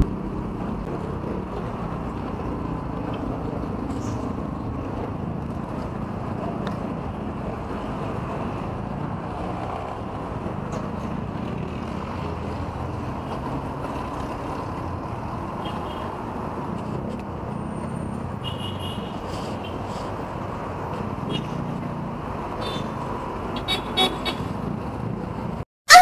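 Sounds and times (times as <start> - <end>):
traffic hum: 0.0 - 26.0.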